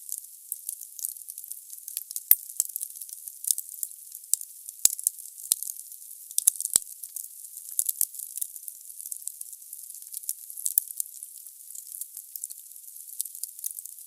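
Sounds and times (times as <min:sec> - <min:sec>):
burning logs crackling and popping: 0:00.1 - 0:14.0.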